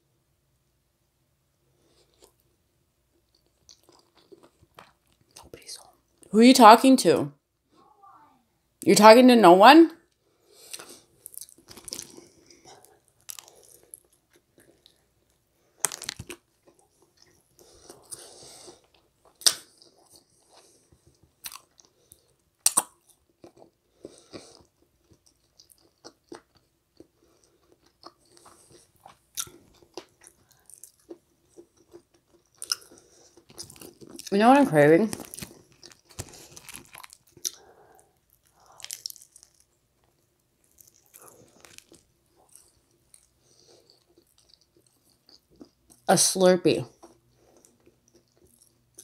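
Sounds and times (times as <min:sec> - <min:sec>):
chewing pizza: 0:01.8 - 0:06.3, 0:10.2 - 0:34.3, 0:35.0 - 0:46.1, 0:46.9 - 0:49.0.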